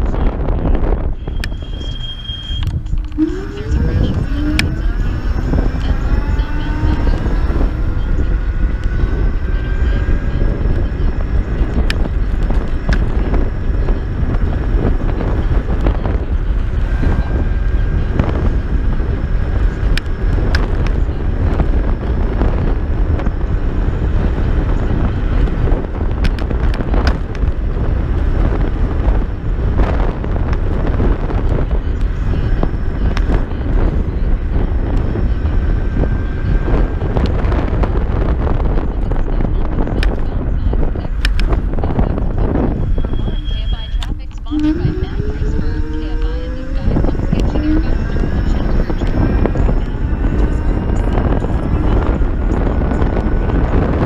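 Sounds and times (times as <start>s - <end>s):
wind buffeting microphone: 0.0s - 54.0s
electric motor whine: 1.3s - 38.8s, 40.9s - 54.0s.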